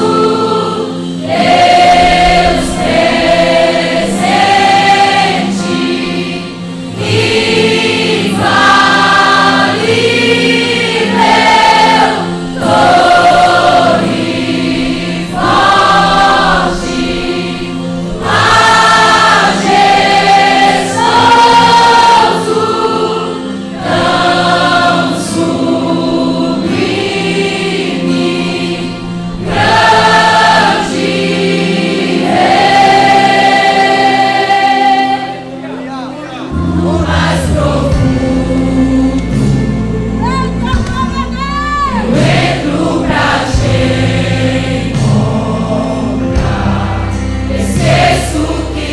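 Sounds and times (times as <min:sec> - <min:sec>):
choir singing worship song: 0:00.0 - 0:48.9
low instrumental accompaniment: 0:00.0 - 0:48.9.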